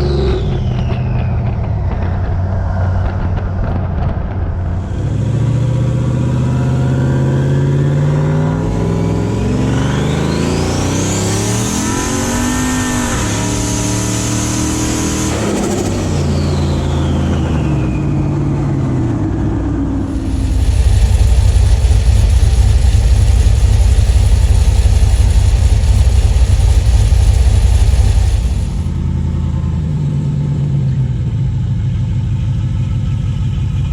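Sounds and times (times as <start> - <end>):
high whine: 0.0 - 18.0, 20.0 - 29.6
vehicle engine accelerating: 0.0 - 33.9.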